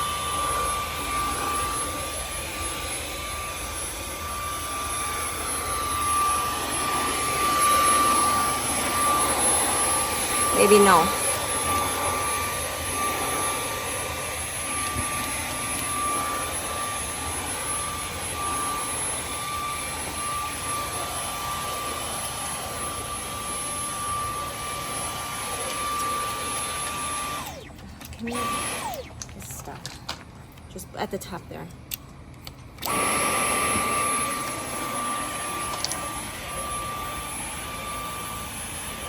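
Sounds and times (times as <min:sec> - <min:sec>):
vacuum cleaner whining: 0:00.0 - 0:30.7, 0:32.6 - 0:39.0.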